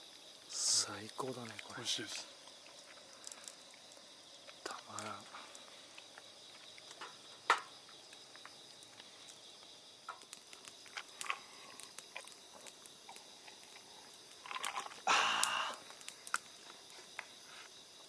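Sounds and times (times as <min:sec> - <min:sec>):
faint insect chorus: 0:00.0 - 0:18.0.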